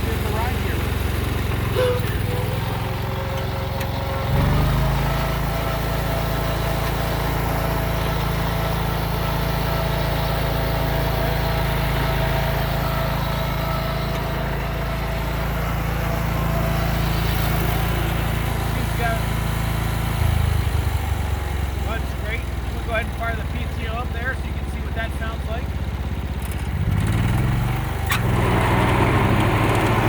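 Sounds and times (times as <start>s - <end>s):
garden tractor engine running: 0.0s - 30.0s.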